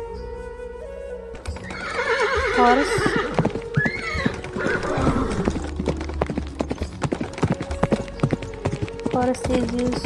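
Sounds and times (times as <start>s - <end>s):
horse hooves clip-clopping: 1.4s - 10.0s.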